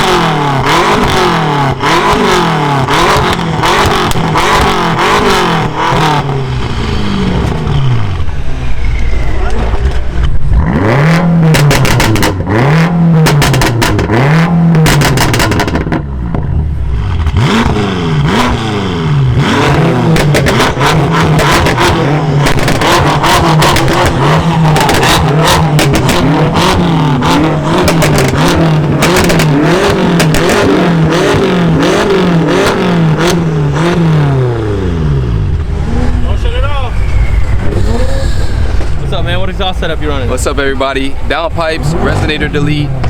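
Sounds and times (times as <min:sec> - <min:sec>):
exhaust pops and crackles: 0:00.0 - 0:06.3, 0:09.2 - 0:18.7, 0:19.3 - 0:34.4, 0:35.5 - 0:43.0
car engine revving: 0:00.0 - 0:43.0.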